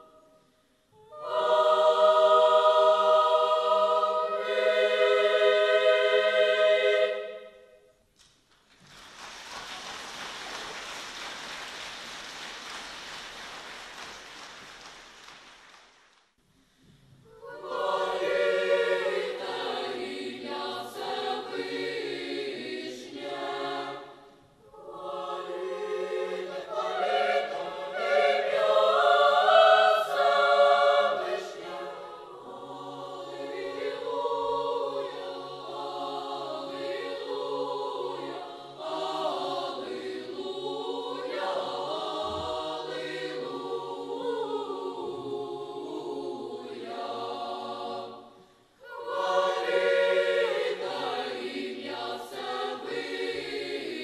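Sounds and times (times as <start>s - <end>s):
girls' choir singing a hymn: 0.0s - 7.8s, 17.3s - 54.0s.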